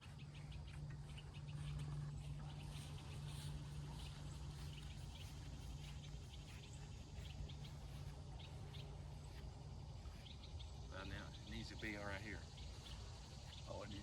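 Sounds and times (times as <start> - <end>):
birds chirping faintly: 0.0 - 14.0
steady low hum: 0.0 - 14.0.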